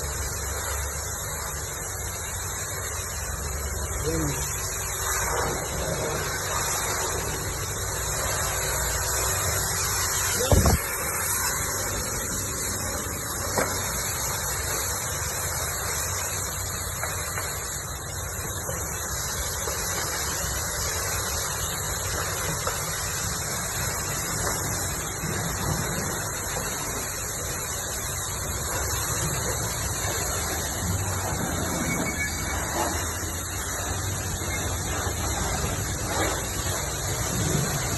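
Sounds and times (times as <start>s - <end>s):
pressure washer spraying car: 0.0s - 37.9s.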